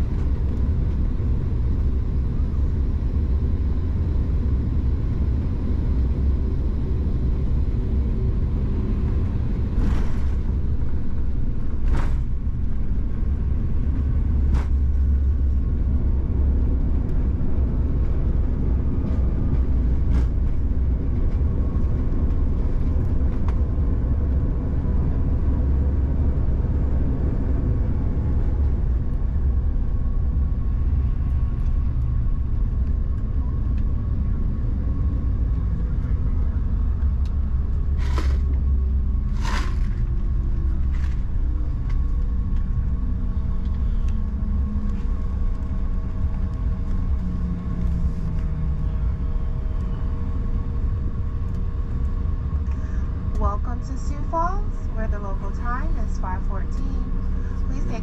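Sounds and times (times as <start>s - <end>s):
jet cabin low rumble: 0.0s - 58.0s.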